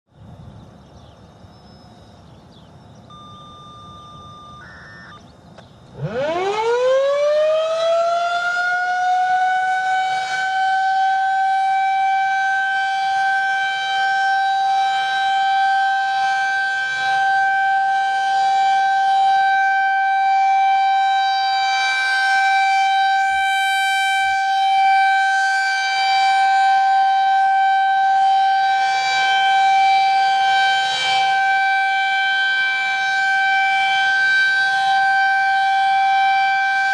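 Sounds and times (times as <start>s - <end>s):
warning siren winding up and wailing: 3.1s - 36.9s.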